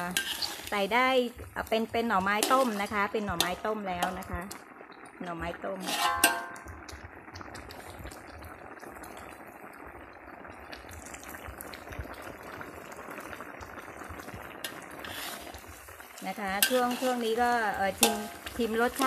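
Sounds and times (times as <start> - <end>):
curry bubbling in a wok: 0.0 - 19.0.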